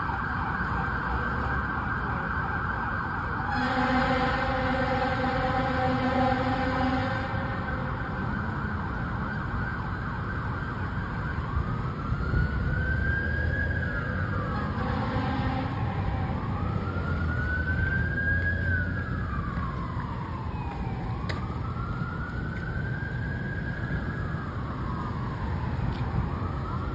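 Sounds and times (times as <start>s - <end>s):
fire engine siren wailing: 0.0s - 26.9s
street traffic rumble: 0.0s - 26.9s.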